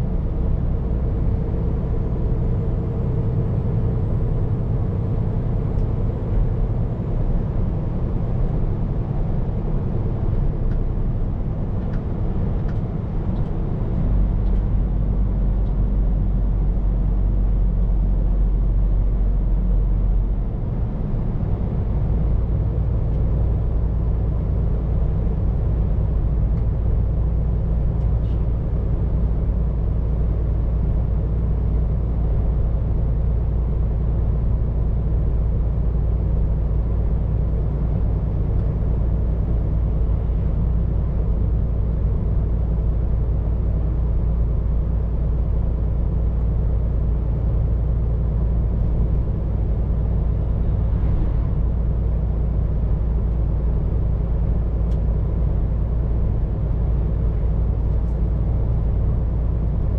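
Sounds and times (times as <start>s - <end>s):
road noise: 0.0s - 59.9s
truck diesel engine drone: 0.0s - 59.9s.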